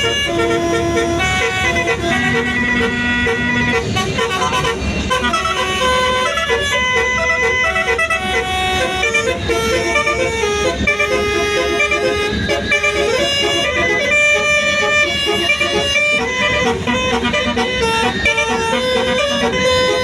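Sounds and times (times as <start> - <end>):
multi-tone bus air horn melody: 0.0 - 20.0.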